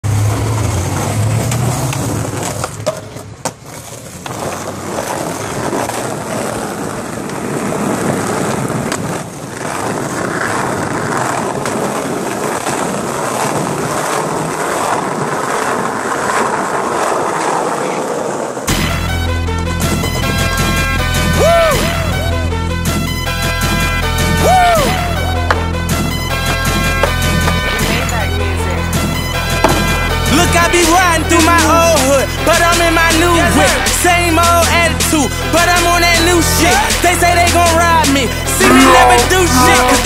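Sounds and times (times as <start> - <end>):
skateboard wheels rolling on concrete: 0.0 - 40.0
skateboard clacks: 0.2 - 18.9, 23.7 - 28.4, 29.0 - 40.0.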